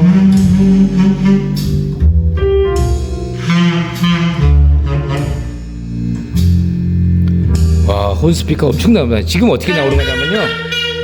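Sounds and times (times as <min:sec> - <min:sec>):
music with heavy bass on loudspeakers: 0:00.0 - 0:11.0.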